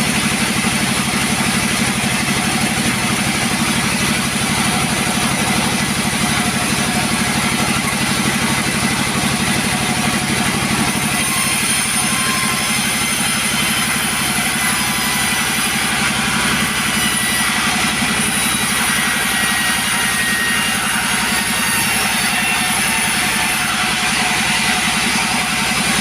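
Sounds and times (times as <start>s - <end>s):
chainsaw running: 0.0s - 26.0s.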